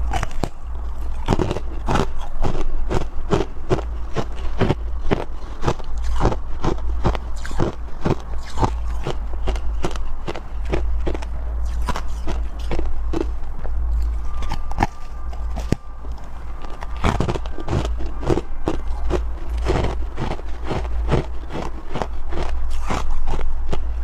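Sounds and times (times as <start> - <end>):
frost crunching being chewed: 0.0 - 24.0
low hum: 0.0 - 24.0.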